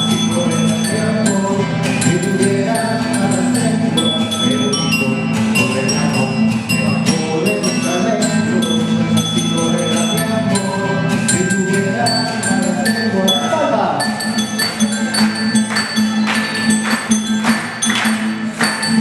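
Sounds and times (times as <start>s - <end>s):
bell-like ringing notes: 0.0s - 19.0s
percussion strokes: 0.0s - 19.0s.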